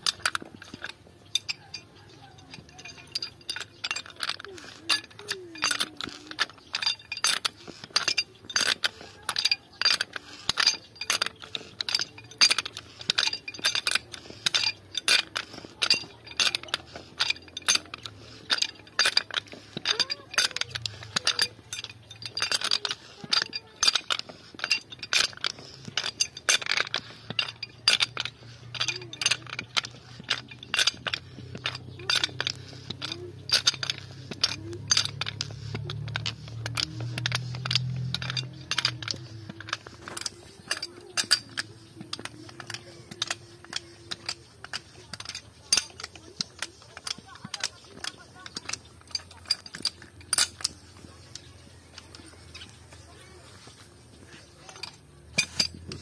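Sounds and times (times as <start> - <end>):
pipe threader ratchet clicking: 0.0 - 52.7.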